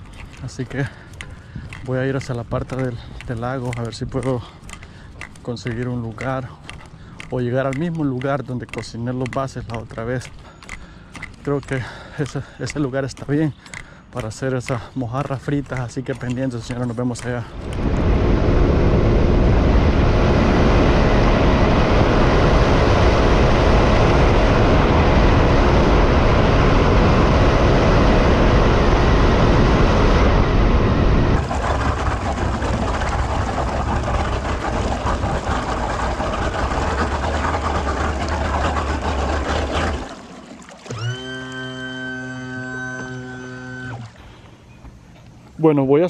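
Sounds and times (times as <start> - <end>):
rushing wind and water: 0.0 - 41.2
outboard motor droning: 0.0 - 45.4.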